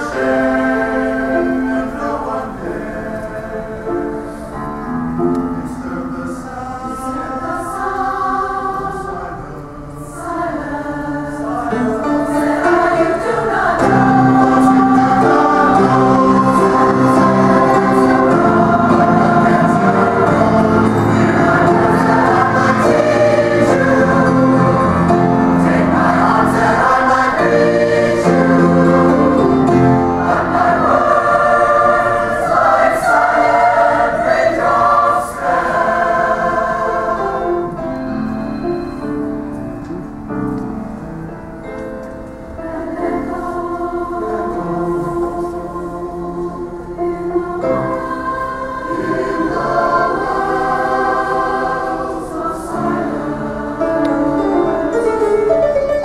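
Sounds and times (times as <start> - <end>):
mixed choir singing: 0.0 - 39.5, 42.5 - 56.0.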